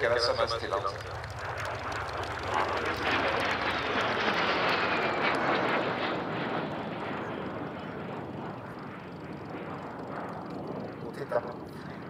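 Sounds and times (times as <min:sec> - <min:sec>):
jet engine flying by: 0:00.0 - 0:12.0.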